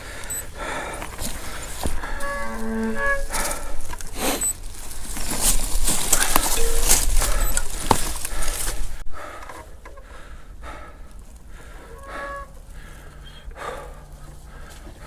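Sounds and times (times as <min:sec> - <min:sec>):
person breathing hard: 0:00.0 - 0:02.3, 0:03.2 - 0:04.6, 0:06.0 - 0:15.0.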